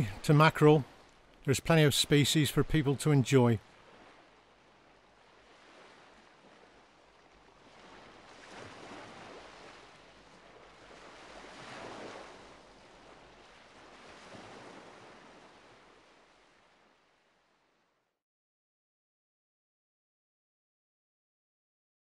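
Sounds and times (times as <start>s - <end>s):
faint sea waves washing: 0.0s - 18.0s.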